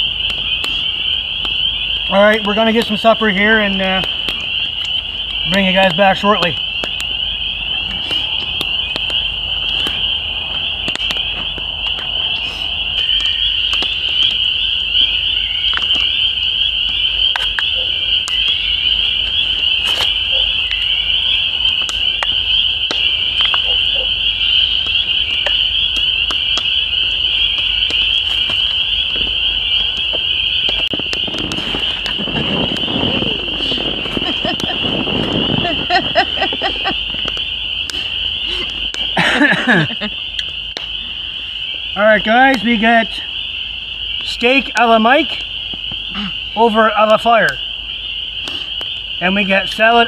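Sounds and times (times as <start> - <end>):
campfire pops and crackles: 0.0 - 50.0
spring peepers peeping: 0.0 - 50.0.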